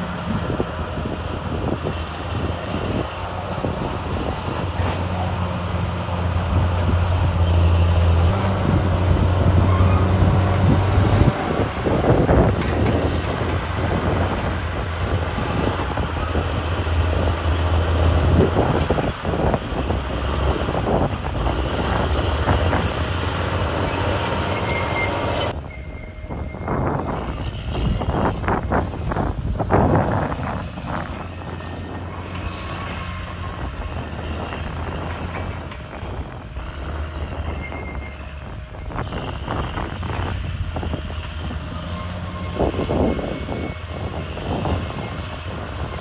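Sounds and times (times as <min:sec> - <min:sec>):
bulldozer diesel engine under load: 0:00.0 - 0:46.0
steel tracks clanking: 0:00.0 - 0:46.0.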